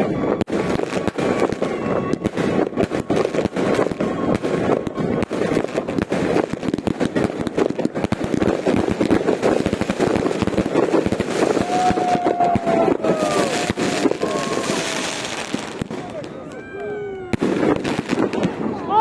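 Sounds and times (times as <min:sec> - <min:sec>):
fireworks and firecrackers banging: 0:00.0 - 0:19.0.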